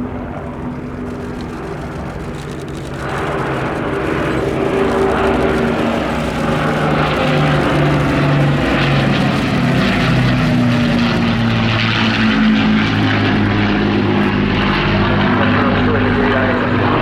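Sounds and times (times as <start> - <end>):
propeller plane droning past: 0.0 - 17.0.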